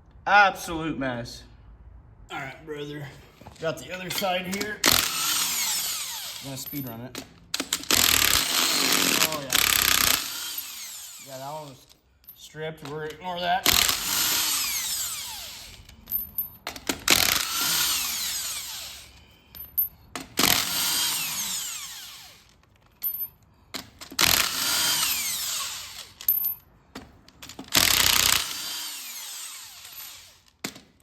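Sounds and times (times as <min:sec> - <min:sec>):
impact wrench spinning bolts: 0:04.1 - 0:26.6, 0:27.4 - 0:30.6.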